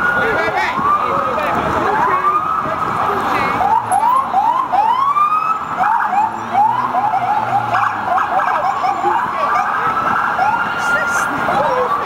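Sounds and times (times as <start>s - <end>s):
police car sirens: 0.0s - 12.0s.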